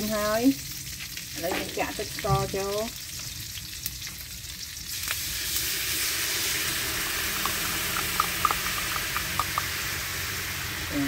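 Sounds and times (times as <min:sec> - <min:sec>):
fish sizzling in oil: 0:00.0 - 0:11.0
oil popping: 0:00.8 - 0:10.8.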